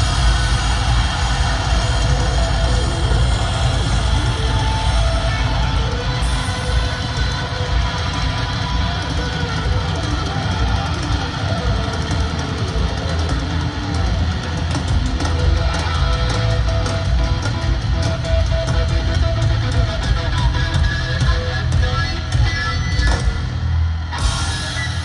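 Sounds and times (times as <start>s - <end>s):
live heavy metal band: 0.0s - 25.0s.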